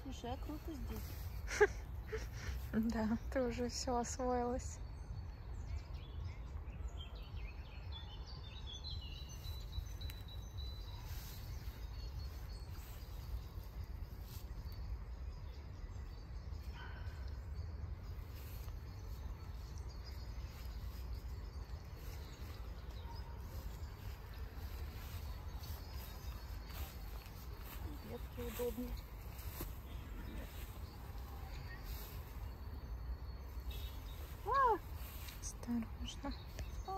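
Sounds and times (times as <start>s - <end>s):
birds chirping and calling: 0.0s - 36.9s.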